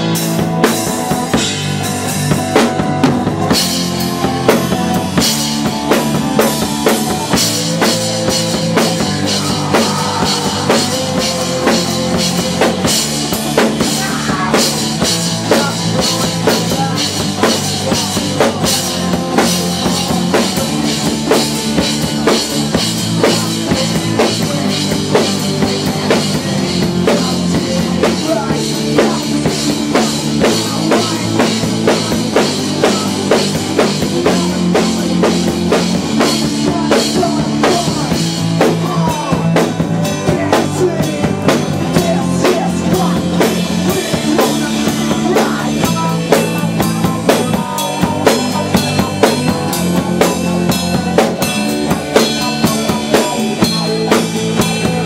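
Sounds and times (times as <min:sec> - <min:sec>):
drum kit beating fast: 0:00.0 - 0:55.0
electric bass guitar: 0:00.0 - 0:55.0.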